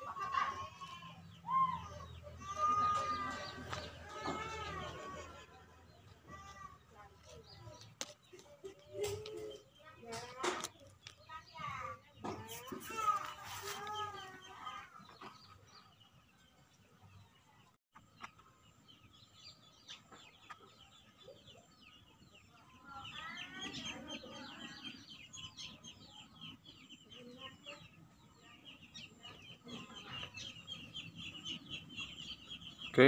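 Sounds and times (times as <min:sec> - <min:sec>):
chickens clucking: 0:00.0 - 0:33.0
small birds chirping: 0:00.0 - 0:33.0.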